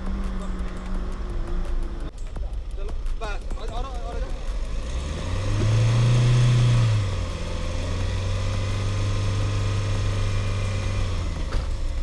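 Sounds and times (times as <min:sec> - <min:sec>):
off-road vehicle engine under load: 0:00.0 - 0:12.0.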